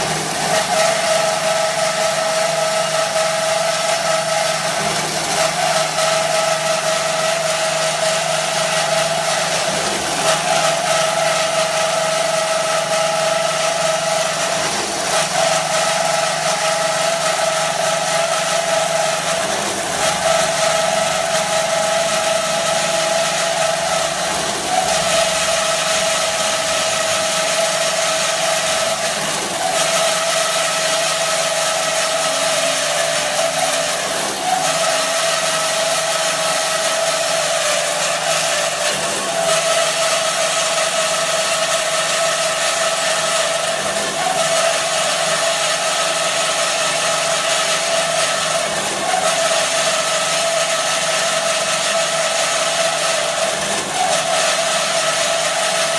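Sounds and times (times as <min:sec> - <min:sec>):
band saw machine hum and whine: 0:00.0 - 0:55.9.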